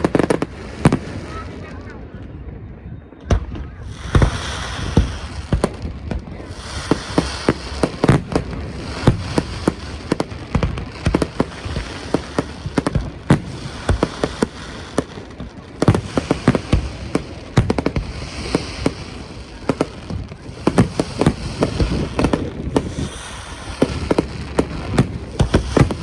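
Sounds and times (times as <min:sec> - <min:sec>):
crackling hiss of fireworks: 0:00.0 - 0:02.0, 0:03.3 - 0:26.0
fireworks bangs: 0:00.0 - 0:26.0.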